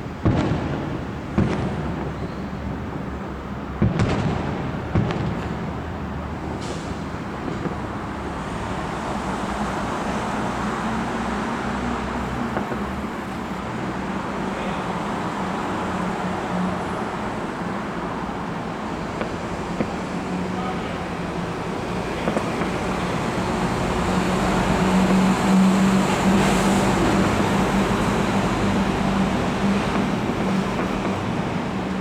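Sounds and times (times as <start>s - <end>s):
fireworks banging: 0.2s - 3.1s, 3.7s - 9.0s, 9.7s - 14.9s, 18.4s - 32.0s.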